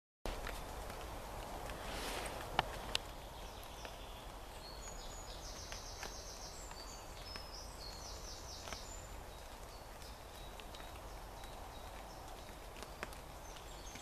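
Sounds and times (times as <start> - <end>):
faint clicks: 2.4 - 14.0.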